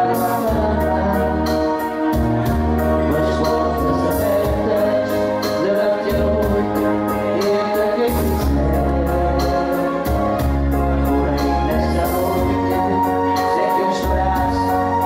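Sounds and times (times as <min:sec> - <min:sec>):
karaoke backing track with organ: 0:00.0 - 0:15.0
people singing into microphones: 0:00.0 - 0:15.0.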